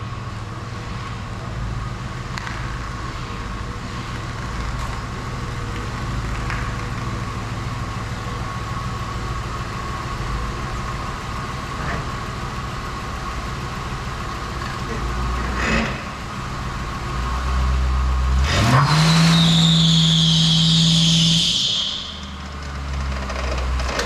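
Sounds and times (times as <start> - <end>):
engine idling hum: 0.0 - 24.0.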